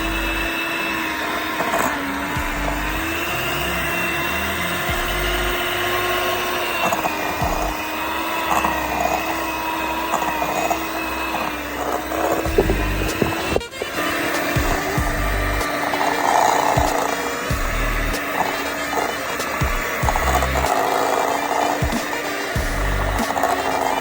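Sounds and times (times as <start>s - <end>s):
electric hand mixer running: 0.0s - 24.0s.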